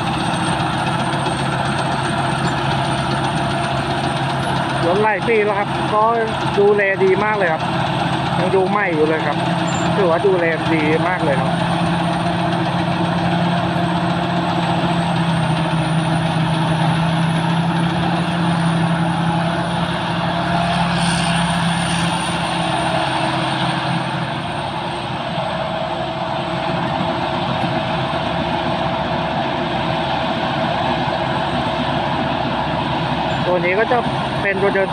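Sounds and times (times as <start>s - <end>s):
combine harvester engine drone: 0.0s - 34.9s.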